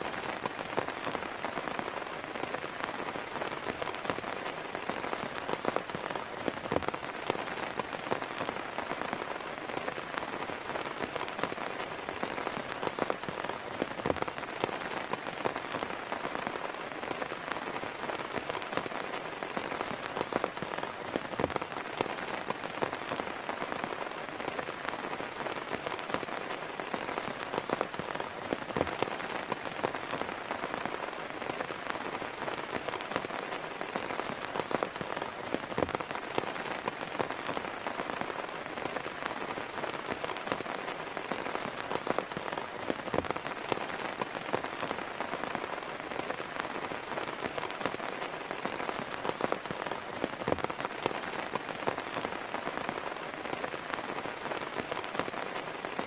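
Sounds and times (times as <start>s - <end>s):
heavy rain falling: 0.0s - 56.0s
raindrops striking a surface: 0.0s - 56.0s.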